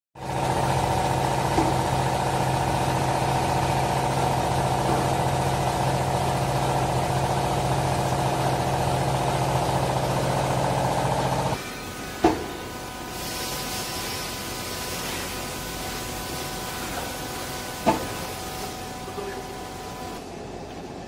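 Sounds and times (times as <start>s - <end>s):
hydraulic motor and pump humming: 0.2s - 21.0s.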